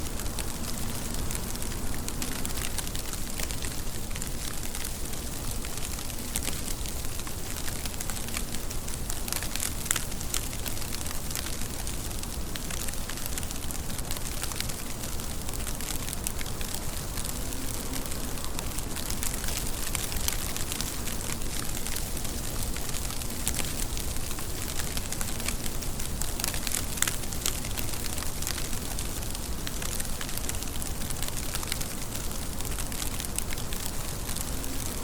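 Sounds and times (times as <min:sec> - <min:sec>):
steady rain with drop ticks: 0:00.0 - 0:35.0.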